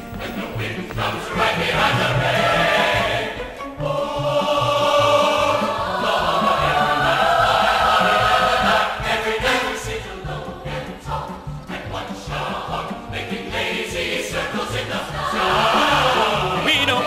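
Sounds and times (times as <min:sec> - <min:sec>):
choir and orchestra show tune: 0:00.0 - 0:17.0.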